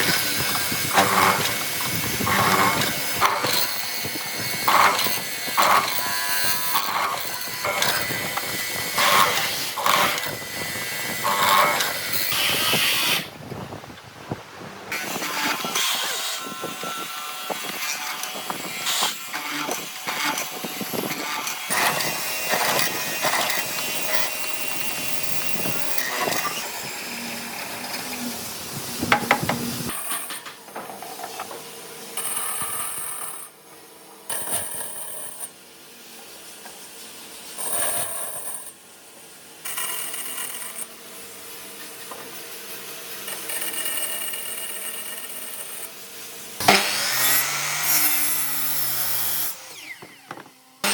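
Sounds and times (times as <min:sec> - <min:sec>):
power and hand tools on timber: 0:00.0 - 0:13.4, 0:14.9 - 0:38.8, 0:39.6 - 0:50.9.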